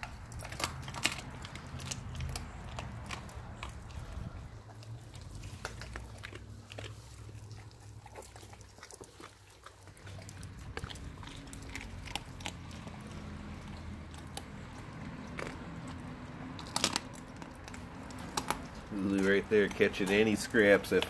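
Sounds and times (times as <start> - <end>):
dogs crunching bones: 0.0 - 21.0.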